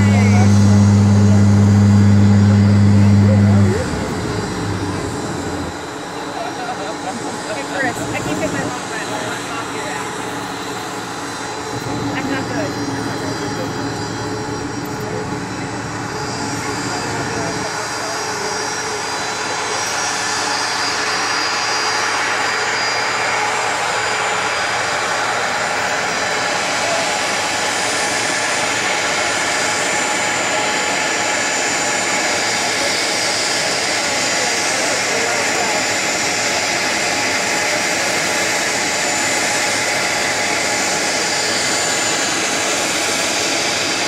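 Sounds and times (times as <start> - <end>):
jet engines whining at taxi power: 0.0 - 44.0.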